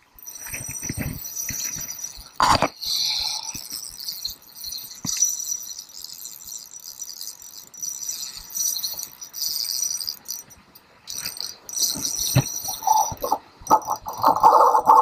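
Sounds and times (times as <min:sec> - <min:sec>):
insects trilling: 0:00.2 - 0:10.4, 0:11.1 - 0:15.0.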